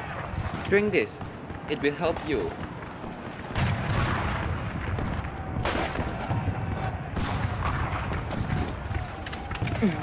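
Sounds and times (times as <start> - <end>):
gunfire: 0.0 - 10.0.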